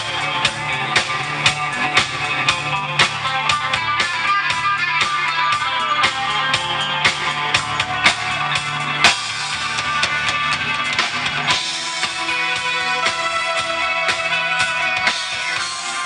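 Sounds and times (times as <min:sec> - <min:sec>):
bass guitar: 0:00.0 - 0:16.0
drum kit steady beat: 0:00.0 - 0:16.0
electric guitar: 0:00.0 - 0:16.0.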